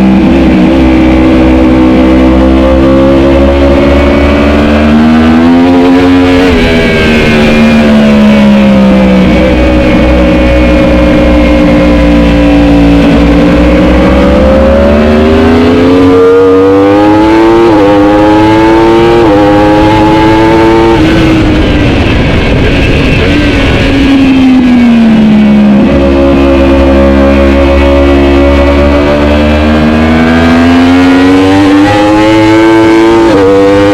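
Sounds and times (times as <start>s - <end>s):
superbike engine accelerating: 0.0s - 33.9s.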